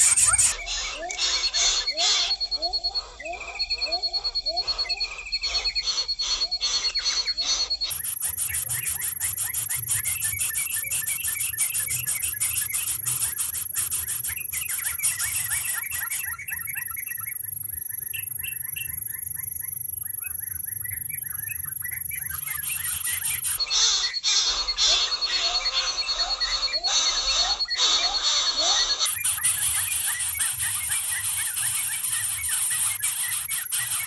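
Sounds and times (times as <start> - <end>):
nestling birds squeaking: 0.0 - 34.0.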